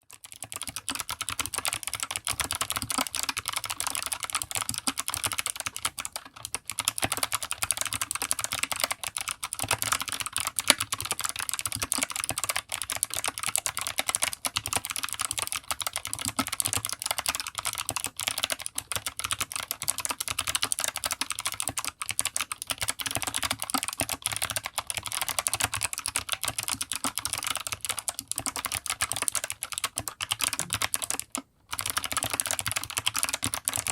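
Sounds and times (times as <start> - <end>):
fast typing on clicky keyboard: 0.0 - 33.9.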